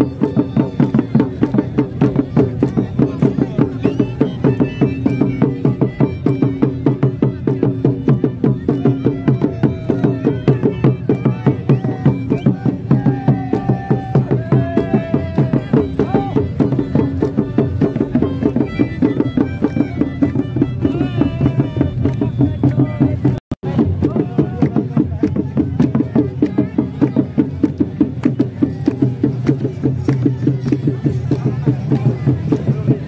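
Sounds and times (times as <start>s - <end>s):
hand drums beating: 0.0s - 33.0s.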